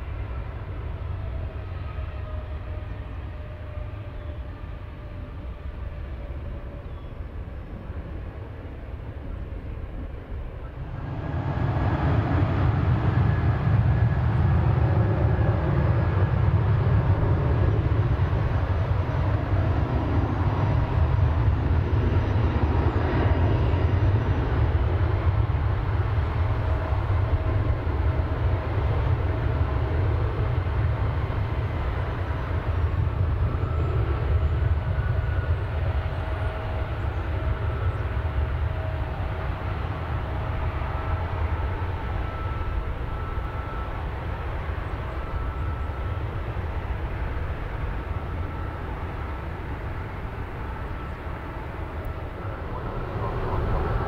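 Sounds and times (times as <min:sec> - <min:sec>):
jet engine rumble and whine: 0:00.0 - 0:54.0.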